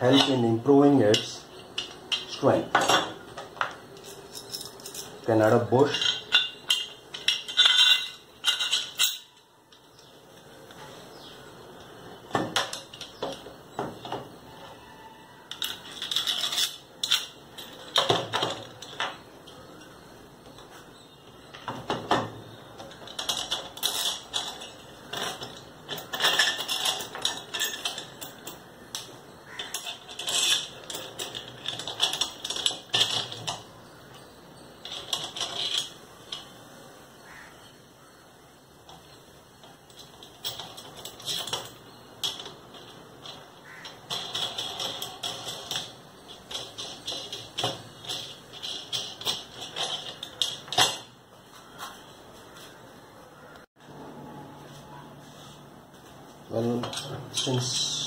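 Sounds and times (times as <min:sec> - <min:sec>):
metal washers clinking: 0:00.0 - 0:36.7, 0:38.8 - 0:51.9, 0:56.6 - 0:58.0.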